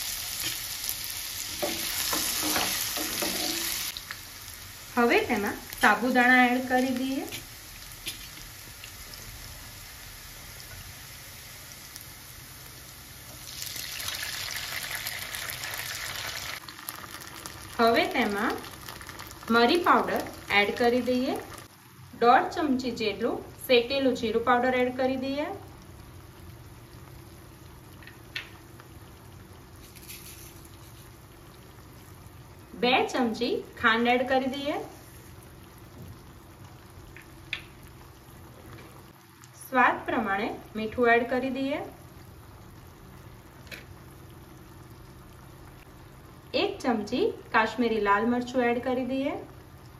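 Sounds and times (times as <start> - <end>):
faint frying sizzle: 0.0 - 49.9.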